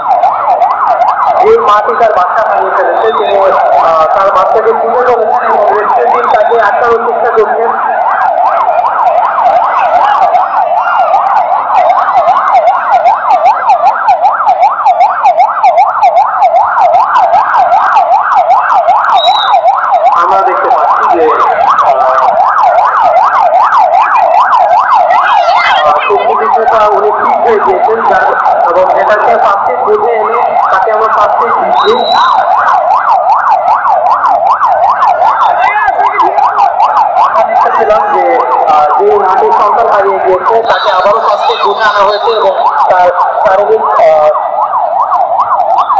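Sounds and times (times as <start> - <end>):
electronic siren yelping: 0.0 - 45.9.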